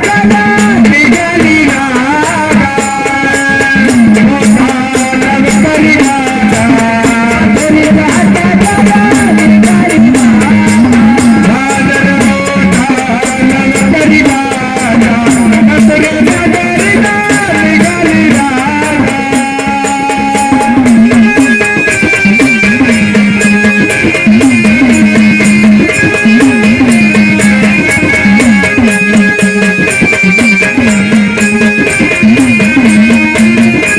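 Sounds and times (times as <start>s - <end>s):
drum beat: 0.0s - 33.9s
jingling percussion: 0.0s - 33.9s
wavering melody: 0.0s - 33.9s.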